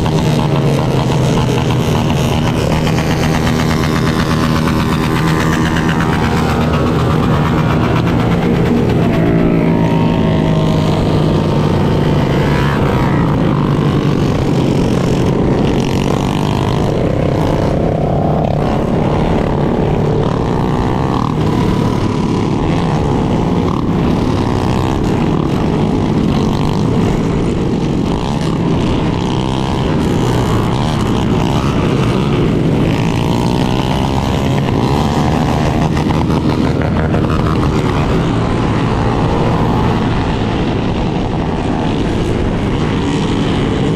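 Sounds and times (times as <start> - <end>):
motorcycle engines running: 0.0 - 43.9
wind rushing on microphone: 0.0 - 43.9.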